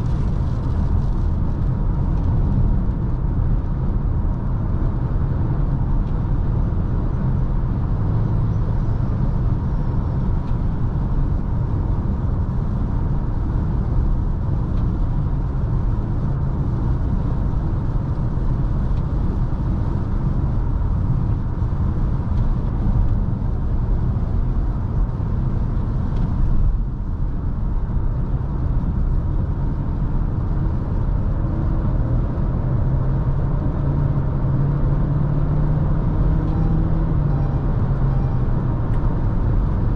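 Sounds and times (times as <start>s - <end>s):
car engine in cabin: 0.0s - 39.9s
tyre road rumble: 0.0s - 39.9s.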